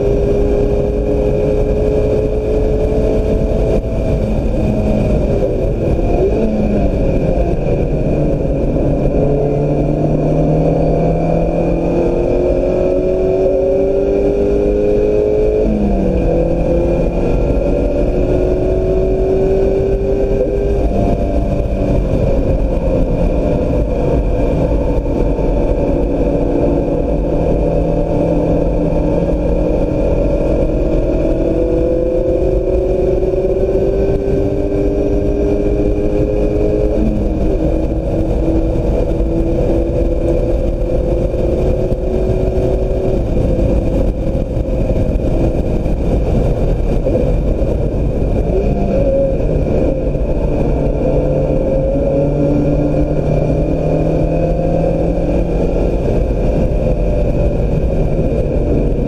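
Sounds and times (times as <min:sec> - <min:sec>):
car engine accelerating: 0:00.0 - 0:59.0
road and wind rumble: 0:00.0 - 0:59.0.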